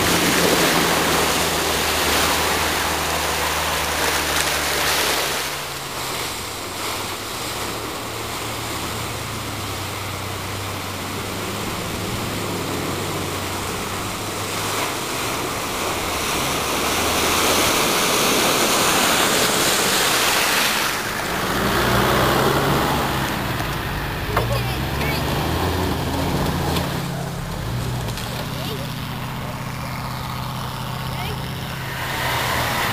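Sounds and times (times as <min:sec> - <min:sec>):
pickup engine running: 0:00.0 - 0:32.9
water sloshing and splashing: 0:00.0 - 0:32.9.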